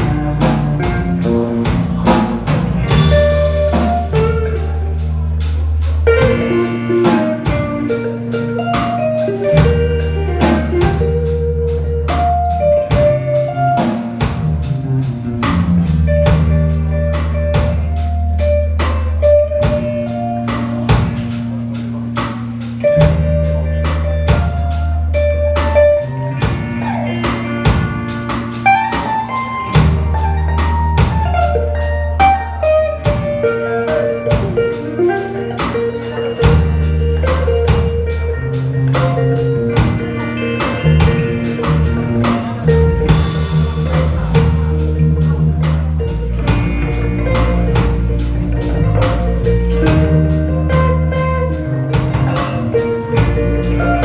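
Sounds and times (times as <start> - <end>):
bass notes: 0.0 - 54.0
drum kit beat: 0.0 - 54.0
guitar lead melody: 0.0 - 54.0.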